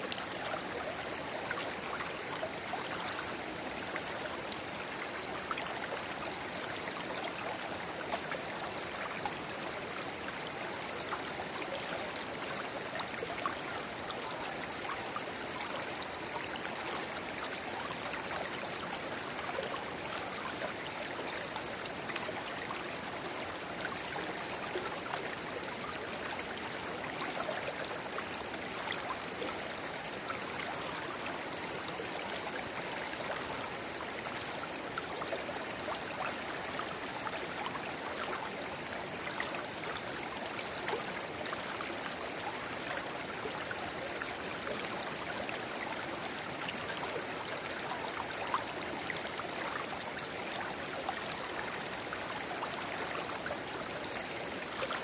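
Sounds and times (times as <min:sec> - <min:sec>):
shallow river babbling: 0:00.0 - 0:55.0.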